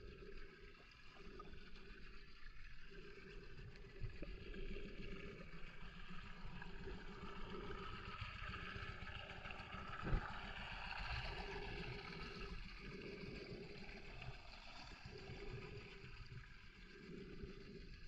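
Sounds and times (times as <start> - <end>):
underwater water rumble: 0.0 - 18.0.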